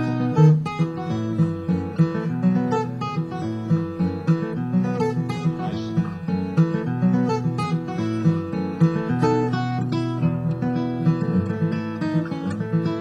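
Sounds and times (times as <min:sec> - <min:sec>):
fingerpicked acoustic guitar: 0:00.0 - 0:13.0.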